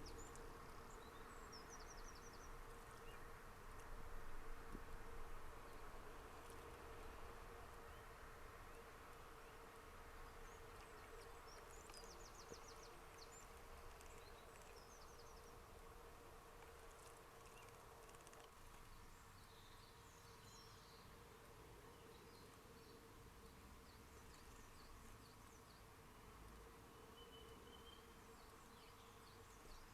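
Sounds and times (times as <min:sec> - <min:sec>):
steady faint hum: 0:00.0 - 0:29.9.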